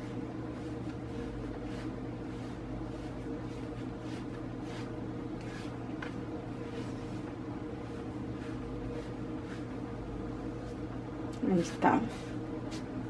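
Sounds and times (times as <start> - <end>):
hands rubbing dough on countertop: 0.0 - 13.0
steady low hum: 0.0 - 13.0.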